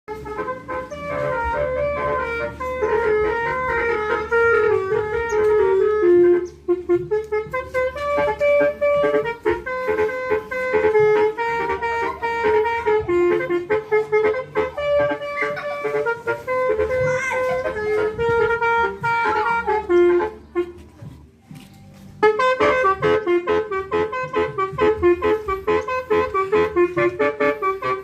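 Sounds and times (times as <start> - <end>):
electric melody horn playing: 0.1 - 20.9, 22.2 - 28.0.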